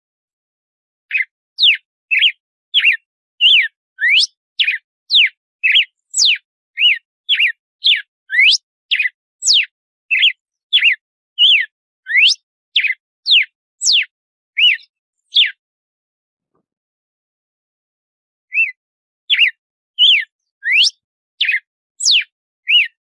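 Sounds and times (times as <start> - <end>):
bird singing whistled notes: 1.1 - 15.6, 18.5 - 23.0.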